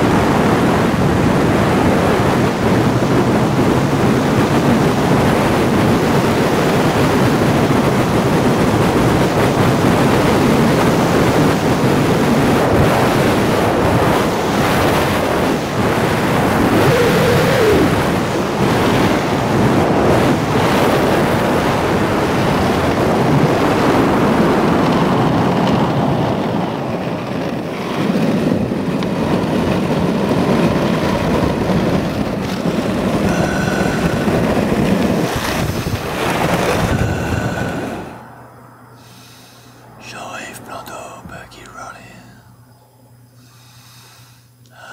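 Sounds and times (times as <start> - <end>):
skate wheels rolling on asphalt: 0.0 - 38.4
wind rushing over microphone: 0.0 - 43.3.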